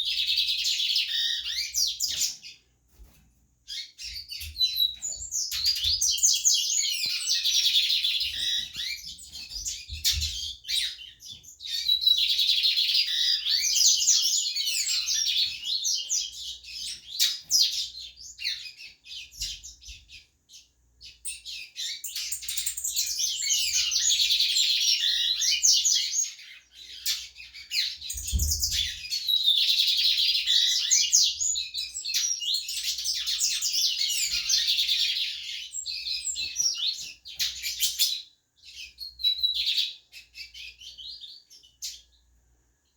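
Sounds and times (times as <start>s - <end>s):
small birds singing: 0.0s - 42.9s.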